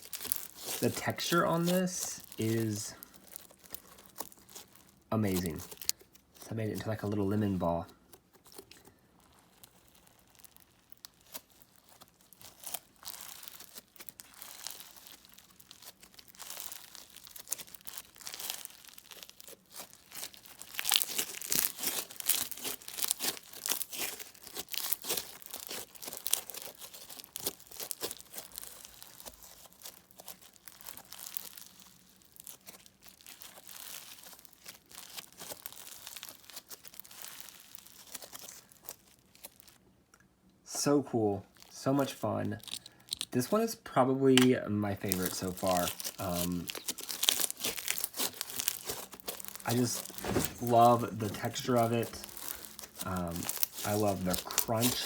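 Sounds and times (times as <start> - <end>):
crunchy slime squeezed by hand: 0.0 - 6.4, 8.0 - 39.8, 45.1 - 55.0.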